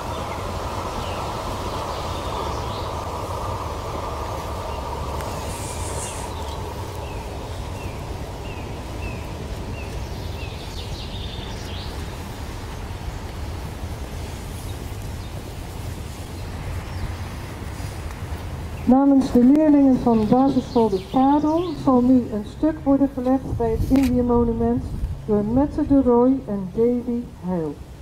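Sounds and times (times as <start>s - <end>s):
even hiss: 0.0s - 25.4s.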